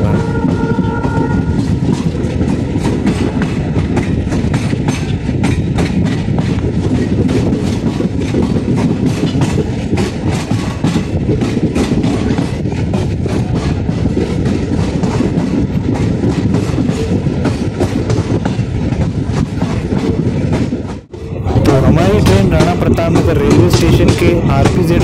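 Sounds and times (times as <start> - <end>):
train running gear rumble: 0.0 - 25.0
wheels clacking over rail joints: 0.0 - 25.0.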